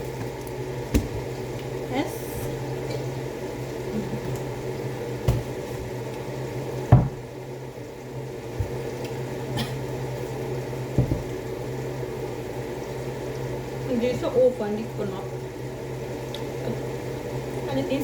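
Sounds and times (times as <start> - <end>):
oven humming: 0.0 - 18.0.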